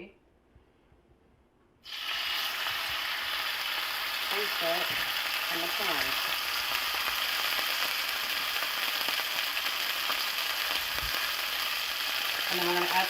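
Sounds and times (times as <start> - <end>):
liver sizzling in a pan: 1.8 - 13.0.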